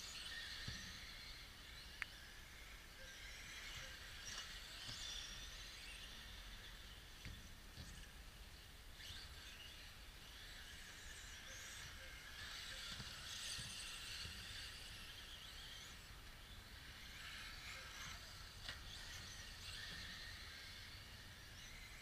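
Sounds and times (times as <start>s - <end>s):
model cars high whirring: 0.0s - 22.0s.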